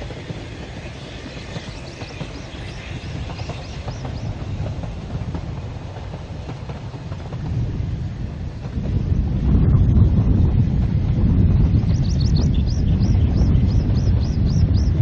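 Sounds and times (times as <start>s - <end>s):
distant train wheels rumbling on rails: 0.0s - 15.0s.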